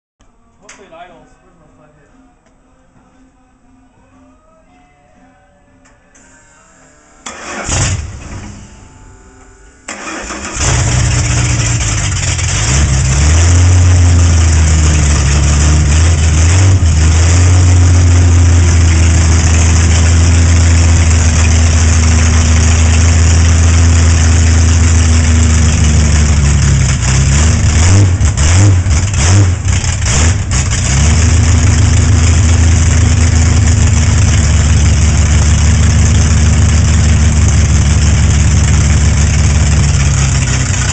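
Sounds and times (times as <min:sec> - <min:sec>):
car engine starting and idling: 0:07.2 - 0:40.9.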